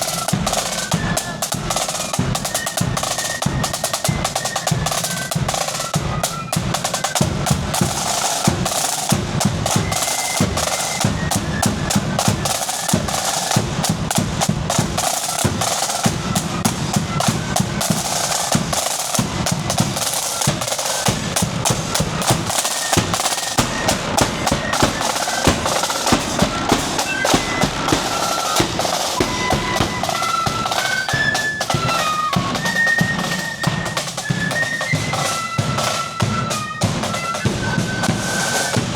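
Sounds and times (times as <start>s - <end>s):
high flute melody: 0.0s - 38.9s
marching flute band: 0.0s - 38.9s
snare drum rolls: 0.0s - 38.9s.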